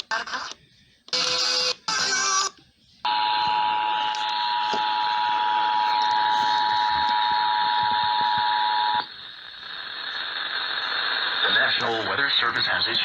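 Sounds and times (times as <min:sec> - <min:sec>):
broadcast static hiss: 0:00.0 - 0:13.0.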